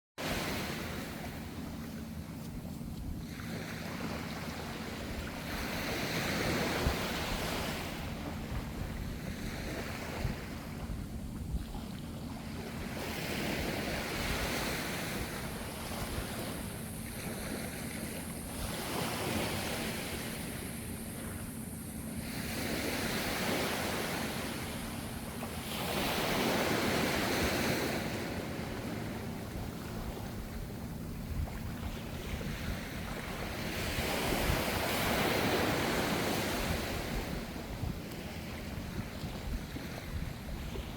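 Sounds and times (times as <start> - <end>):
low rumble of the sea: 0.2 - 40.9
ocean waves breaking: 0.2 - 40.9.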